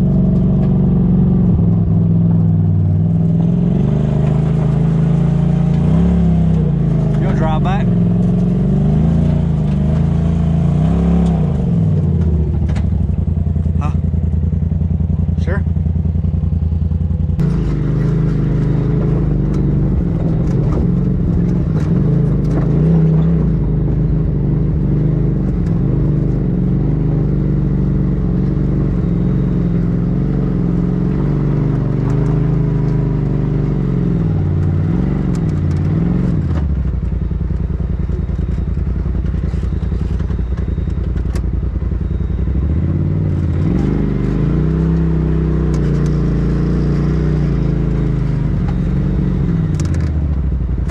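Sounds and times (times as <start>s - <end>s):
off-road vehicle engine running: 0.0s - 50.9s.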